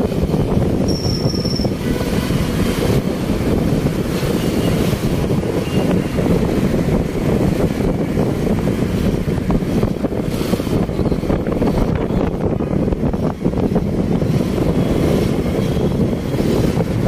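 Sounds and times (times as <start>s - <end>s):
traffic road and engine noise: 0.0s - 17.0s
wind buffeting microphone: 0.0s - 17.0s.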